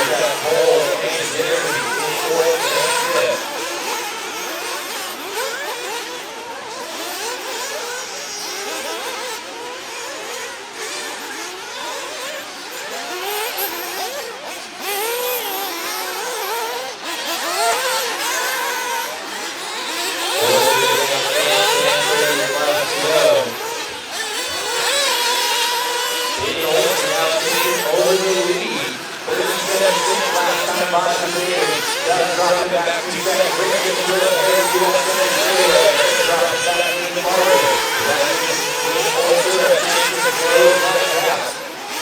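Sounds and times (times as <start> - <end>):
model car engines screaming: 0.0 - 42.0.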